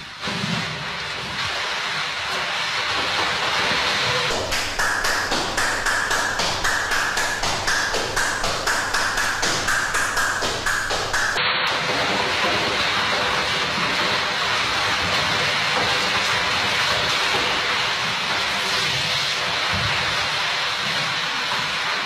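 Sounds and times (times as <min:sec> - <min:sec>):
water splashing in a paddling pool: 0:00.0 - 0:22.0.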